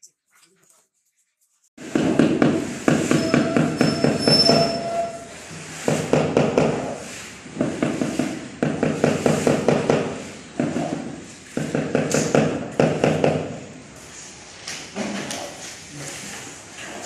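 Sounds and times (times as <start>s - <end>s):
hand scraping marble floor: 0.3s - 17.0s.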